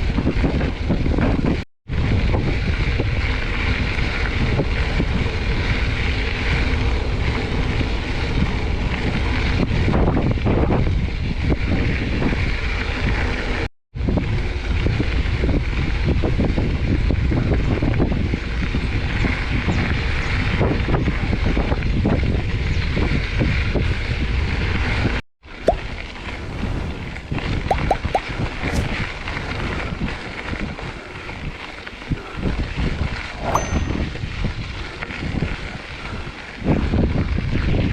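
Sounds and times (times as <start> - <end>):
wind noise on microphone: 0.0 - 37.9.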